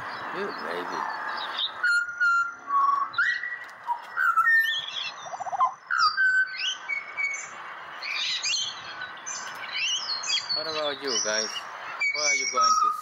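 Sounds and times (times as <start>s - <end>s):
high bird chirps: 0.0s - 13.0s
bird whistling notes: 0.5s - 13.0s.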